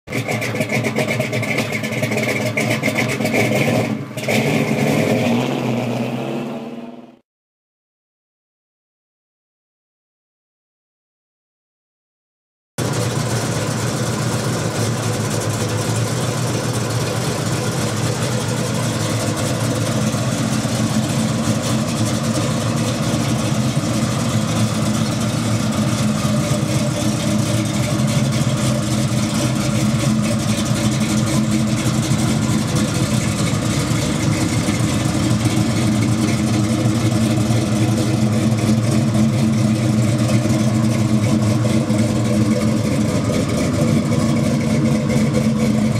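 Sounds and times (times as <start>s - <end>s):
car engine idling: 0.1s - 4.8s, 12.8s - 45.9s.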